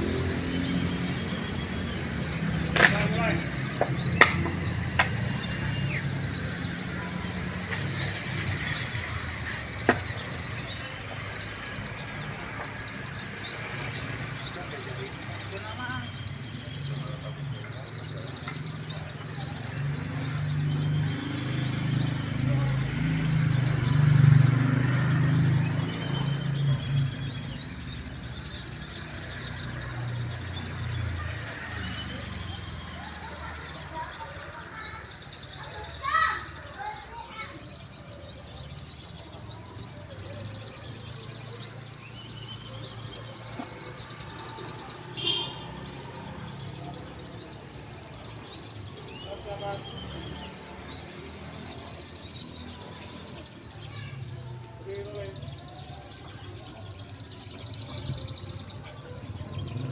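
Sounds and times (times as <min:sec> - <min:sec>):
birds with rattling trills: 0:00.0 - 0:59.9.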